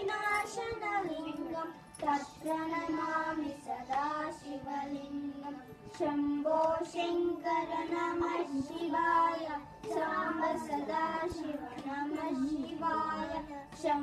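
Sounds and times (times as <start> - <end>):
children singing a devotional song: 0.0 - 14.0.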